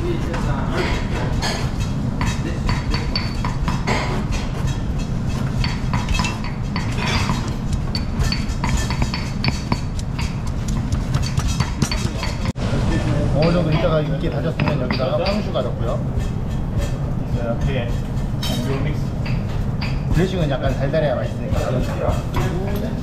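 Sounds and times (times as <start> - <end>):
low kitchen hum: 0.0 - 23.0
pestle pounding in mortar: 1.7 - 12.6, 14.5 - 18.3, 19.1 - 23.0.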